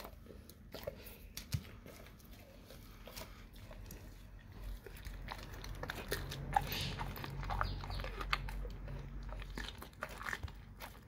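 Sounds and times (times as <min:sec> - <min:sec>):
dog chewing meat: 0:00.0 - 0:11.0.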